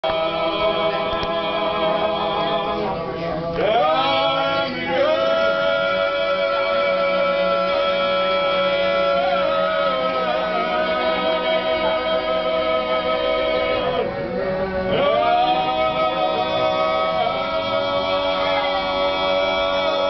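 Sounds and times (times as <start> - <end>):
men singing unaccompanied polyphony: 0.0 - 20.0.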